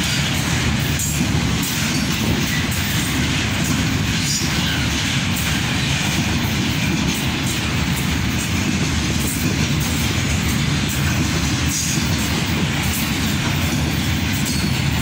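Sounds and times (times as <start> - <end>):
steel wheels rumbling on rail: 0.0 - 15.0
wheels clacking over rail joints: 0.0 - 15.0.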